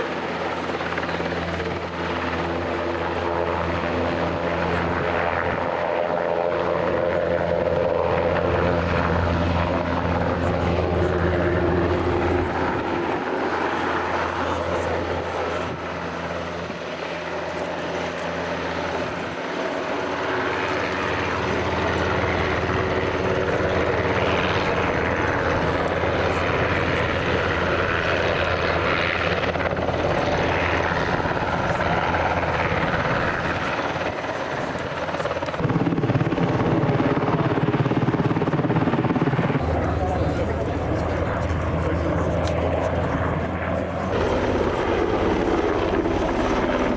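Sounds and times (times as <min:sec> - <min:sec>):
helicopter rotor and turbines: 0:00.0 - 0:46.9.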